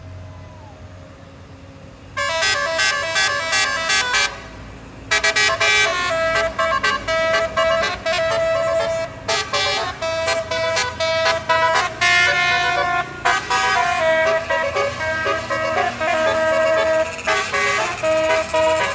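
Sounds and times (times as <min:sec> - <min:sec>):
multi-tone bus horn melody: 0:02.1 - 0:18.9.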